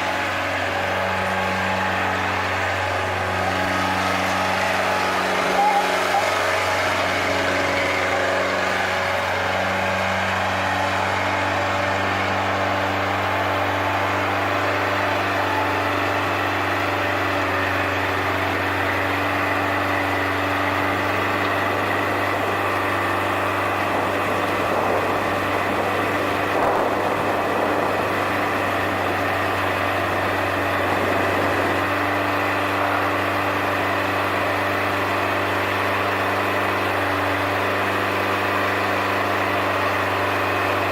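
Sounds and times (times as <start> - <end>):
skid steer engine running: 0.0 - 40.9.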